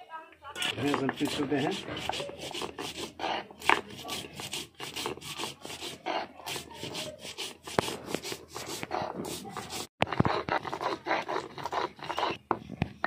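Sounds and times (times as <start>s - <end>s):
stone scraping on stone: 0.6s - 13.0s.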